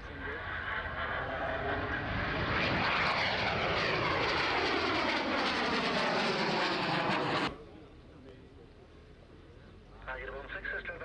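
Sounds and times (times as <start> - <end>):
aircraft engines flying past: 0.0 - 11.0.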